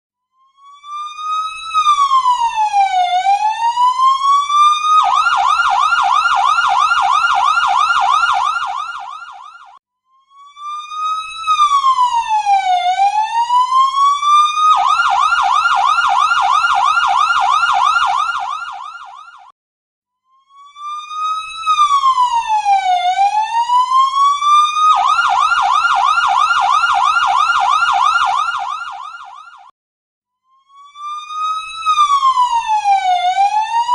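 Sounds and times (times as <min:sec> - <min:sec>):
electronic ambulance siren: 0:00.4 - 0:19.5, 0:20.3 - 0:29.7, 0:30.5 - 0:33.9.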